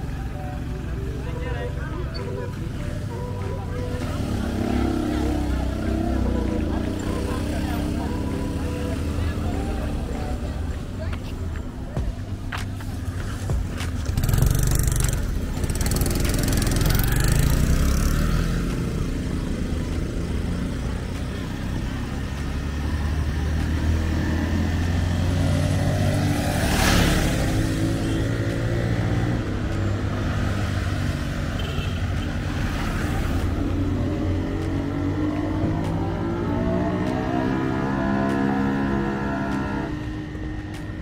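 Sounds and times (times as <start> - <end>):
vehicle engines running: 0.0 - 41.0.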